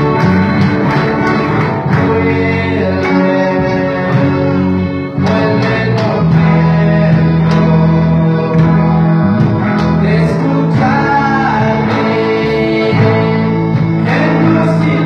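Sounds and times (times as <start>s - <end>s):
person singing: 0.0s - 15.0s
plucked guitar: 0.0s - 15.0s.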